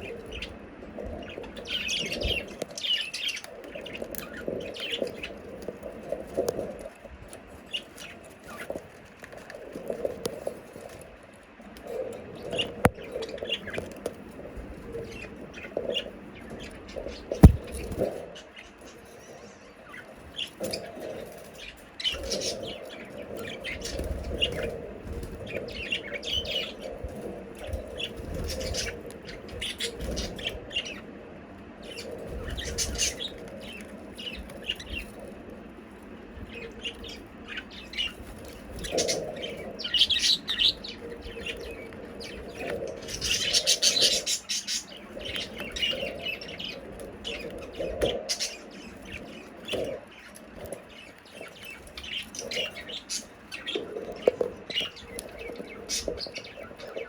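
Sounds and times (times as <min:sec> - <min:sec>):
budgerigars chirping and chattering: 0:00.0 - 0:11.0, 0:11.8 - 0:31.1, 0:31.8 - 0:35.5, 0:36.1 - 0:57.0.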